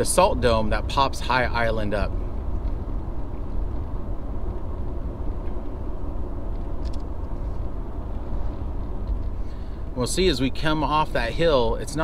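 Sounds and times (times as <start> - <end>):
car driving at highway speed: 0.0 - 12.0.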